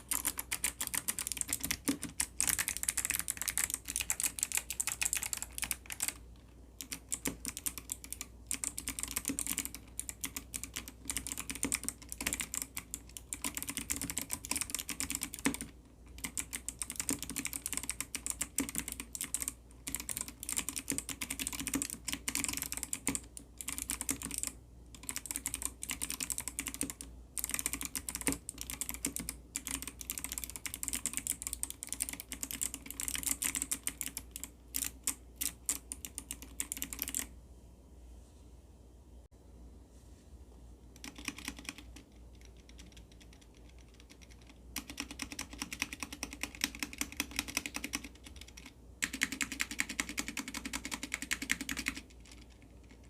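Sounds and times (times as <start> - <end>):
mechanical keyboard typing: 0.0 - 37.3, 41.0 - 53.0.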